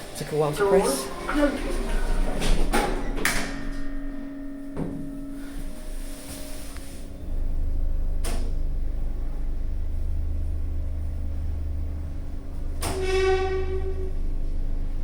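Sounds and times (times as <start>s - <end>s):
lift low rumble: 0.0s - 15.0s.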